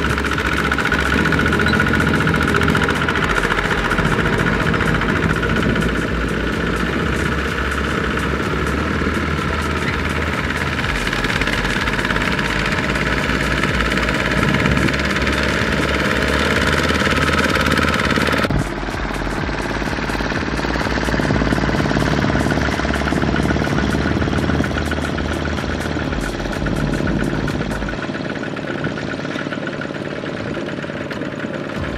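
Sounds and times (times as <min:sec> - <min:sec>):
diesel tractor engine knocking: 0:00.0 - 0:31.9.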